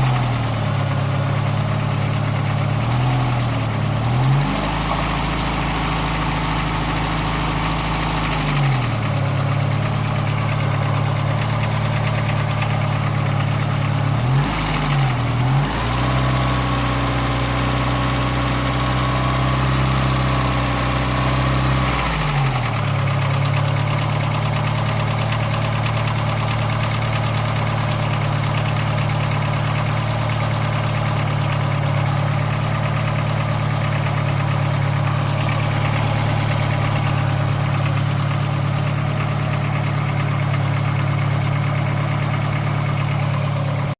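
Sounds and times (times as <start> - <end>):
car engine idling: 0.0 - 43.9
engine rattle: 0.0 - 43.9.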